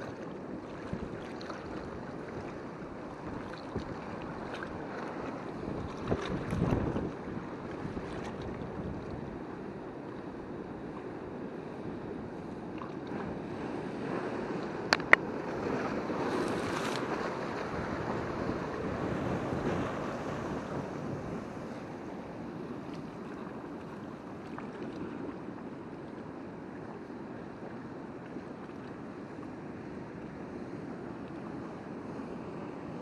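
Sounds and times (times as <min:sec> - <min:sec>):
surf washing over rocks: 0:00.0 - 0:28.6.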